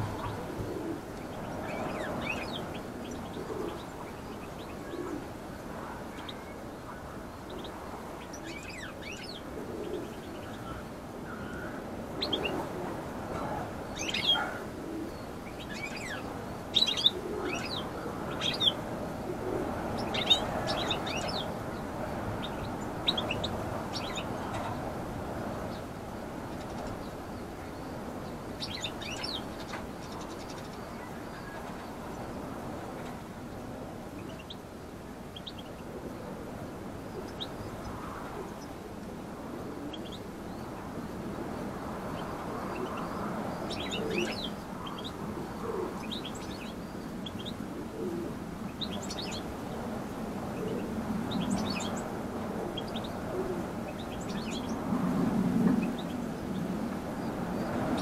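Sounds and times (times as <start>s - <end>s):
low background noise: 0.0s - 58.0s.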